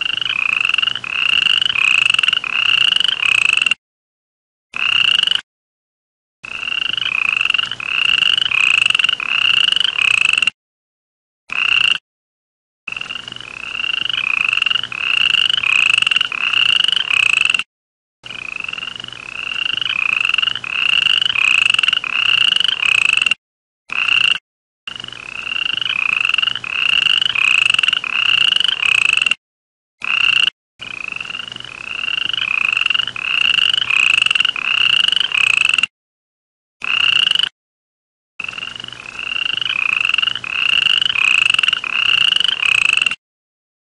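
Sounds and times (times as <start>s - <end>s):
frog croaking: 0.0s - 3.8s, 4.8s - 5.4s, 6.4s - 10.6s, 11.5s - 12.0s, 12.9s - 29.4s, 30.0s - 35.9s, 36.8s - 37.5s, 38.4s - 43.2s.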